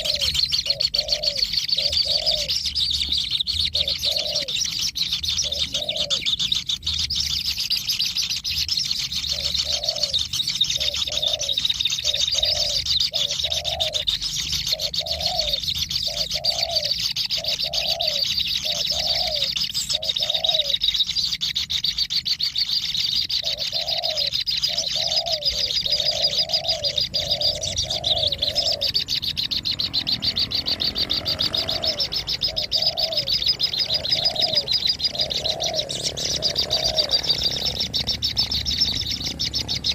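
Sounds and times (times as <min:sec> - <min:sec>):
low cooing bird calls: 0:00.0 - 0:39.9.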